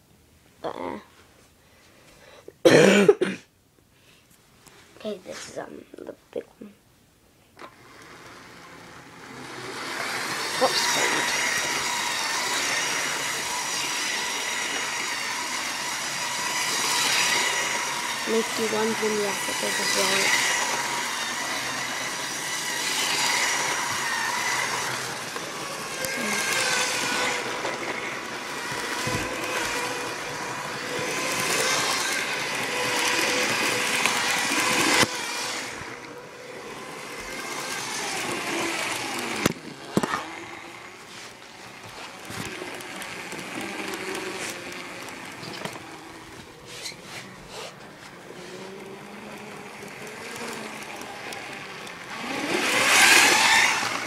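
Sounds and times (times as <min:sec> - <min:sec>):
toy train motor whining: 0:07.6 - 0:54.0
wheels rattling on plastic track: 0:07.6 - 0:54.0.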